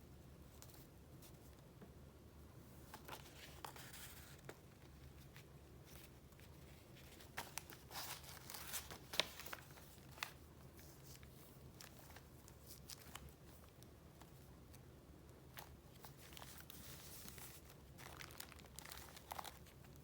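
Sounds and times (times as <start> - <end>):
paper rustling: 2.8 - 14.8, 15.5 - 20.0
paper crinkling: 2.8 - 20.0.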